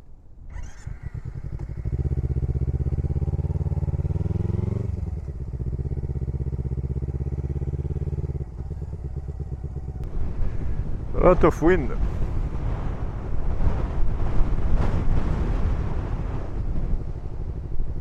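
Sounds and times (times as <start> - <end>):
motorcycle engine revving: 0.5 - 18.0.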